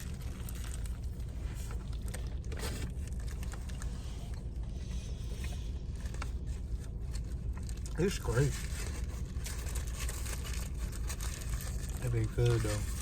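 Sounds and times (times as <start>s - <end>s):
rustling: 0.0s - 13.0s.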